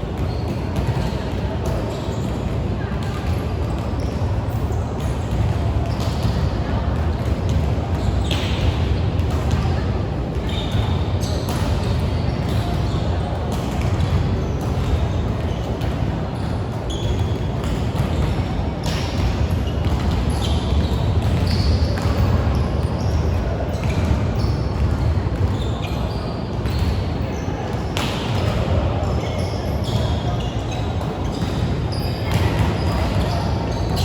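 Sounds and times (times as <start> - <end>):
players and spectators voices: 0.0 - 34.0
sneakers squeaking on court floor: 0.0 - 34.0.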